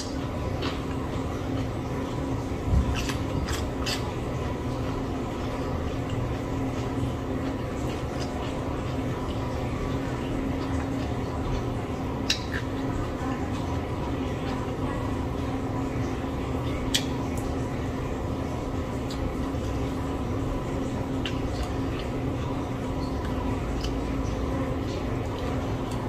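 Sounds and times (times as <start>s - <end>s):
soft chewing sounds: 0.0s - 26.0s
steady low hum: 0.0s - 26.0s.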